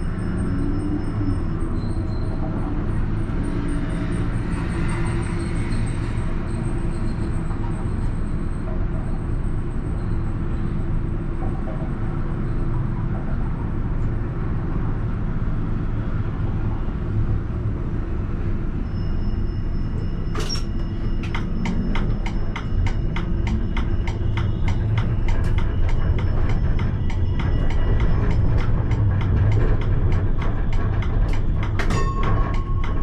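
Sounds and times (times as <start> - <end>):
tram low rumble: 0.0 - 33.0.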